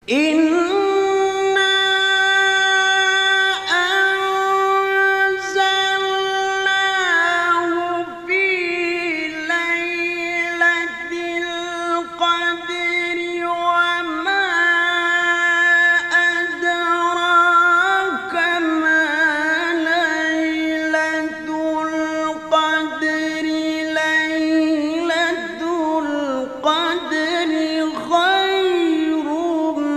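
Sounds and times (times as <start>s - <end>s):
person singing long held notes: 0.0s - 29.9s.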